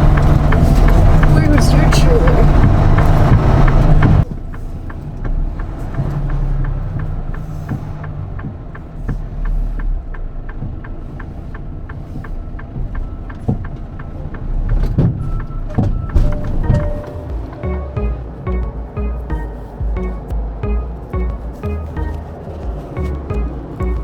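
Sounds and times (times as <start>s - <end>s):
rapid even ticking: 0.0s - 24.0s
truck engine rumbling: 0.0s - 24.0s.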